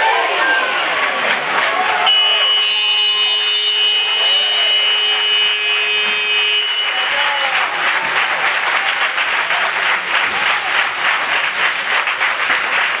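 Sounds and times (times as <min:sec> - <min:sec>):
crowd applause: 0:00.0 - 0:13.0.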